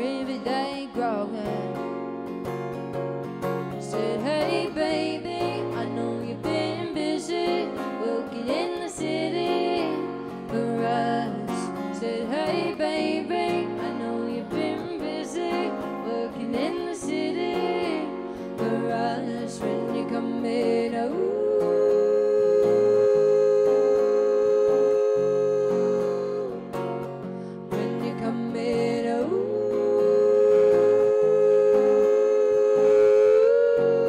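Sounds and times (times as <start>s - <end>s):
woman singing: 0.0s - 2.6s, 3.4s - 34.0s
strummed acoustic guitar: 0.0s - 34.0s.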